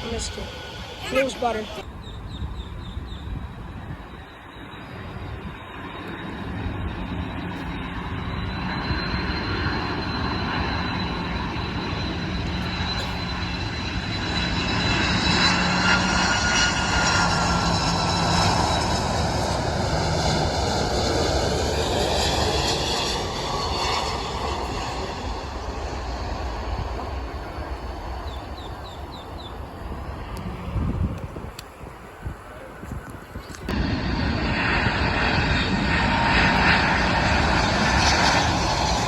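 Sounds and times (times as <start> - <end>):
jet airliner engines passing: 0.0 - 39.0.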